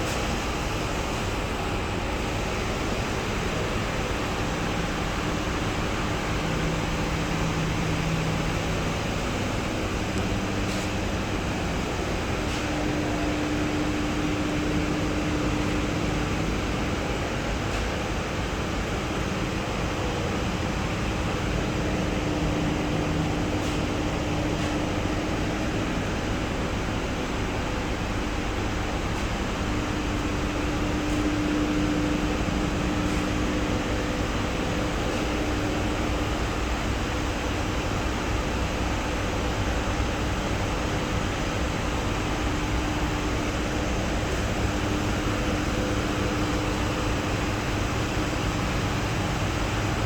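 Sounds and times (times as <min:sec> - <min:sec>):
steady mechanical noise: 0:00.0 - 0:50.0.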